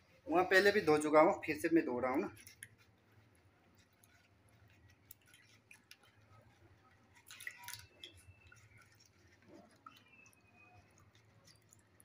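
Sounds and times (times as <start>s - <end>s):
fish rinsed in water: 0.0s - 12.0s.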